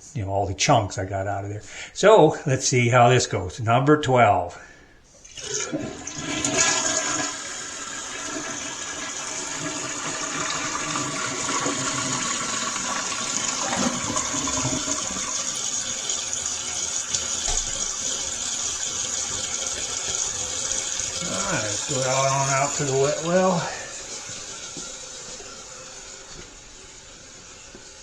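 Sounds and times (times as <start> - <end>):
tank refilling hiss: 5.2 - 28.0
toilet flushing: 5.2 - 28.0.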